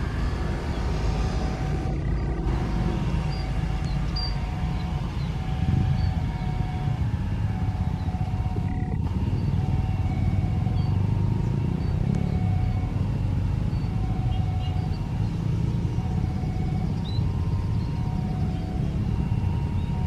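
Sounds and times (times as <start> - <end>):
faint engine whine: 0.0 - 20.0
jet engines taxiing: 0.0 - 20.0
road traffic rumble: 0.0 - 20.0.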